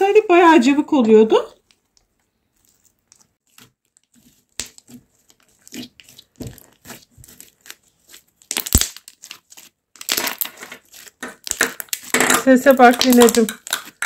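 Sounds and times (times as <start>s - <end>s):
slime crackling and popping: 2.6s - 14.0s.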